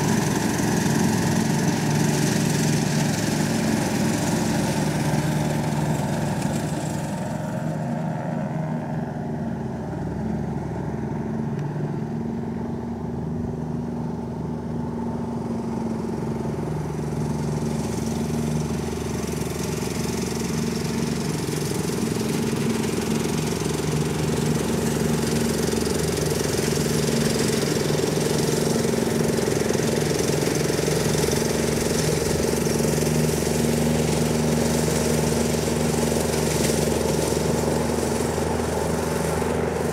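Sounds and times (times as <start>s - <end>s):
riding lawn mower running: 0.0s - 39.9s.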